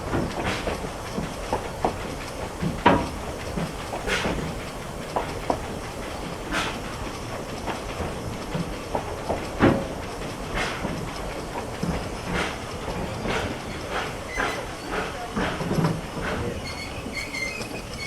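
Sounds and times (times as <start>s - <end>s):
steam train exhaust chuffing: 0.0s - 18.0s
wheels clicking on rail joints: 0.0s - 18.0s.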